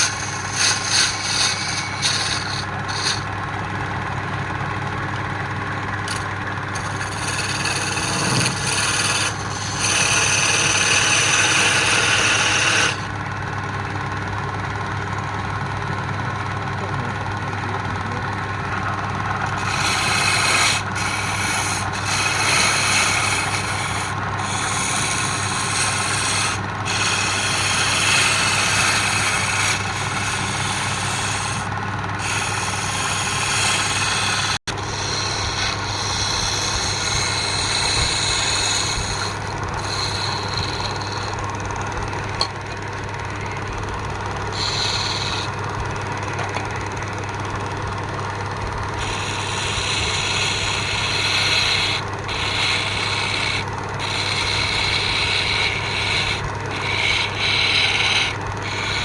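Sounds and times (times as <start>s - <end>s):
tool scraping spinning wood: 0.0s - 15.0s, 18.2s - 59.0s
lathe motor running: 0.0s - 59.0s.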